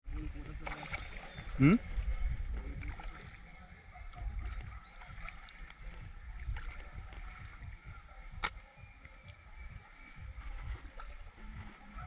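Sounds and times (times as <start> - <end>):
paddle pulling through water: 0.1 - 12.0.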